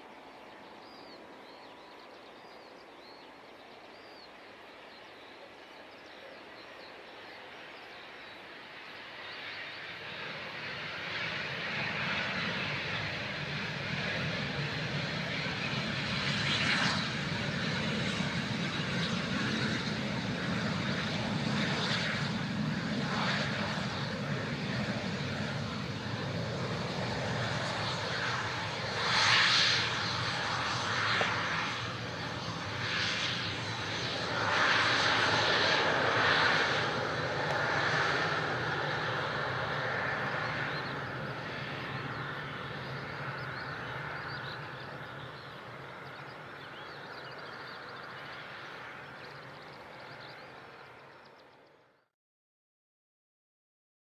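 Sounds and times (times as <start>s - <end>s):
jet engine noise: 0.0s - 51.9s.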